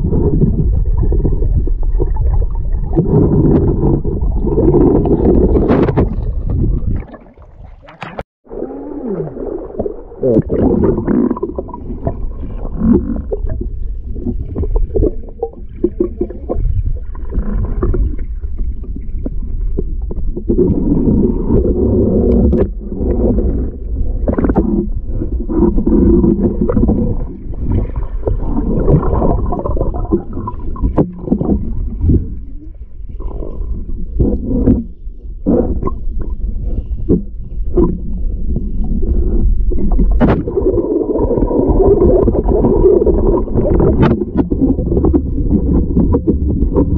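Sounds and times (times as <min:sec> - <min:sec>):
underwater river rumbling and gurgling: 0:00.0 - 0:46.9.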